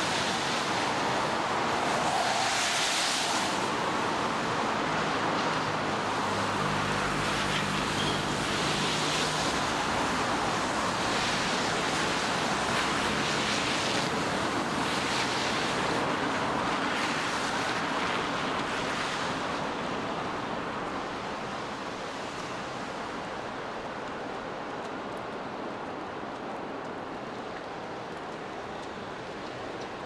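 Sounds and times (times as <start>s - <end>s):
rain hiss on street: 0.0s - 30.0s.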